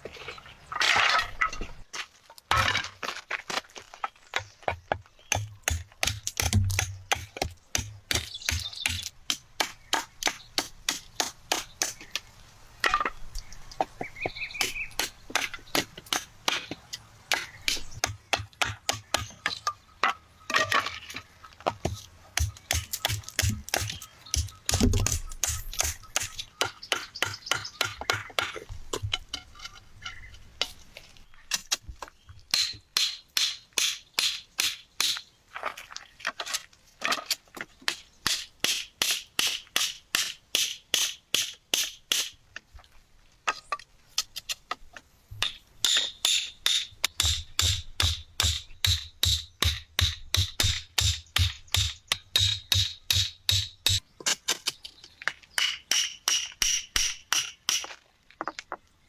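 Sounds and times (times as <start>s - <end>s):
sharp knocks and cracks: 4.3s - 13.2s, 13.8s - 29.4s, 31.5s - 35.3s, 36.4s - 42.4s, 43.5s - 58.8s.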